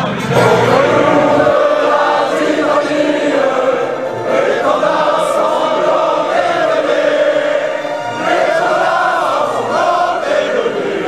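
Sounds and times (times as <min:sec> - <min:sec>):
choir singing long notes: 0:00.0 - 0:11.0.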